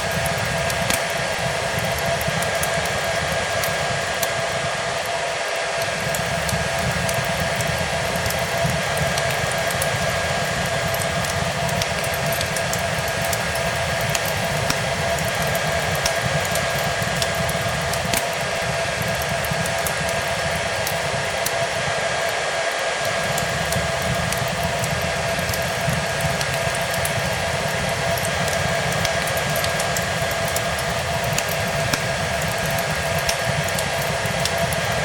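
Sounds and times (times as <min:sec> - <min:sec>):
hair dryer running: 0:00.0 - 0:35.0
wood fire crackling: 0:00.0 - 0:35.0.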